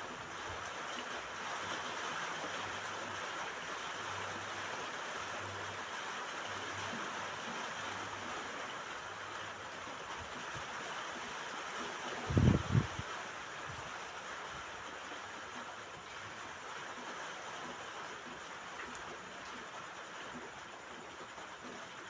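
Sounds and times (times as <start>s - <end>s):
rain falling on a roof: 0.0s - 22.0s.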